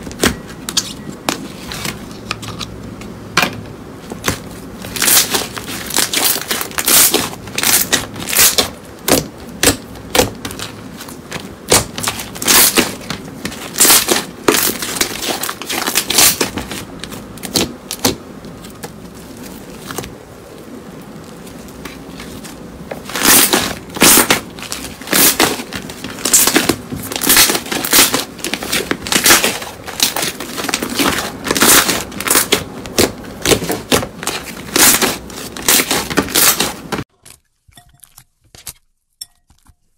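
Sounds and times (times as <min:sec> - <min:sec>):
slime popping and crackling: 0:04.2 - 0:38.8.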